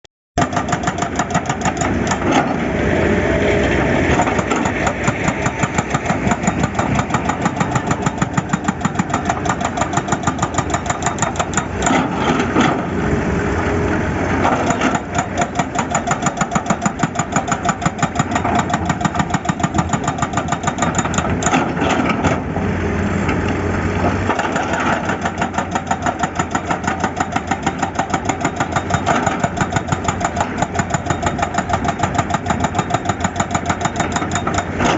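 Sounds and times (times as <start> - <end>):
excavator diesel engine clattering: 0.4 - 34.9.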